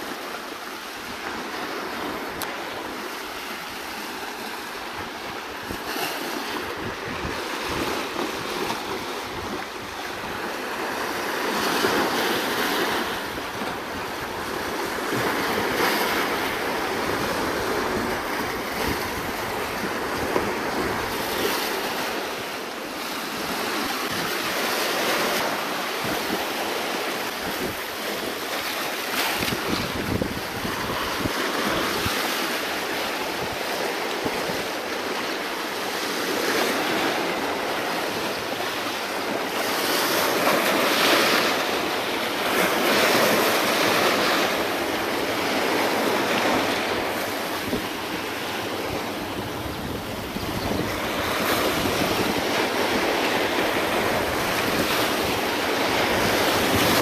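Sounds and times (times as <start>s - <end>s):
sea waves breaking on rocks: 0.0s - 57.0s
wind buffeting microphone: 1.2s - 22.5s, 23.2s - 57.0s.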